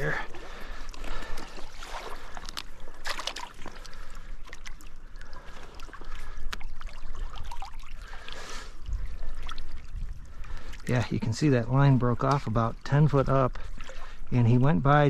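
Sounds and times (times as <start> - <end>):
stream water splashing: 0.0 - 15.0.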